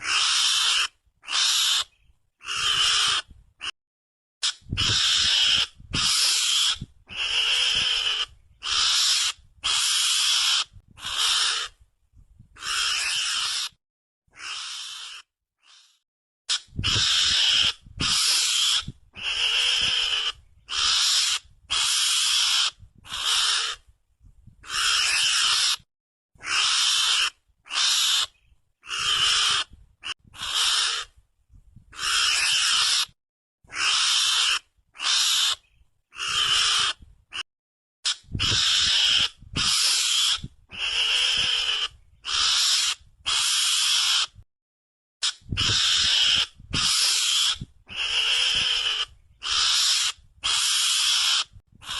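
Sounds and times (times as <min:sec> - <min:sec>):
mongoose chattering calls: 0:00.0 - 0:03.7, 0:04.4 - 0:11.8, 0:12.6 - 0:13.8, 0:14.4 - 0:15.9, 0:16.5 - 0:23.8, 0:24.6 - 0:25.8, 0:26.4 - 0:31.1, 0:31.9 - 0:37.4, 0:38.0 - 0:44.4, 0:45.2 - 0:51.9.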